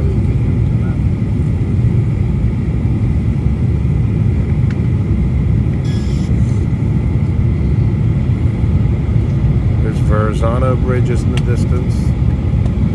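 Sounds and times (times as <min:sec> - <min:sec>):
aircraft cabin engine rumble: 0:00.0 - 0:12.9.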